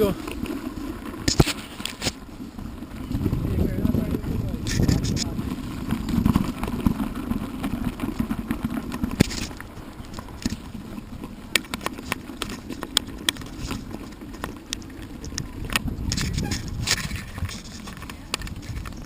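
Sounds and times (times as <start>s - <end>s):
sharp clicks and rattles: 0.0s - 19.0s.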